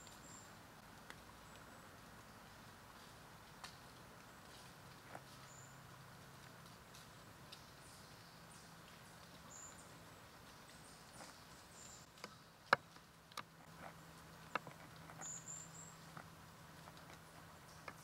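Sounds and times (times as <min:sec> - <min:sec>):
faint ticks and rustles: 0:00.0 - 0:18.0.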